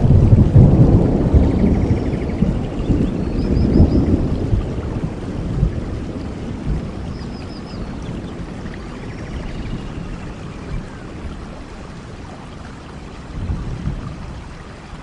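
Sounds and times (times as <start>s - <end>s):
heavy rainfall: 0.0s - 15.0s.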